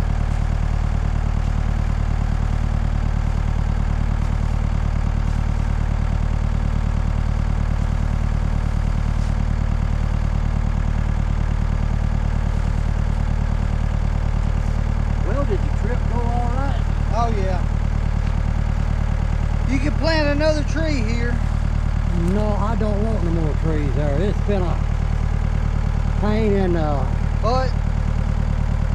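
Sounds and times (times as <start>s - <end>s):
stump grinder engine running: 0.0s - 28.9s.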